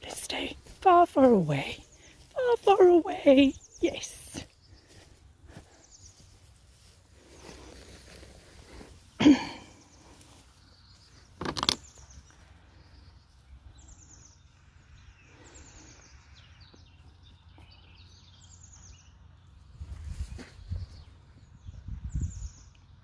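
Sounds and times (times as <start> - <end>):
outdoor background noise: 0.0 - 23.0
small birds chirping trills: 0.0 - 23.0.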